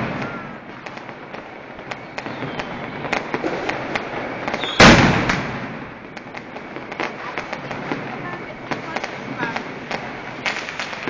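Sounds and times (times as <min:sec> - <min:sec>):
firecrackers popping and crackling: 0:00.0 - 0:11.0
loud firework bang: 0:00.0 - 0:11.0.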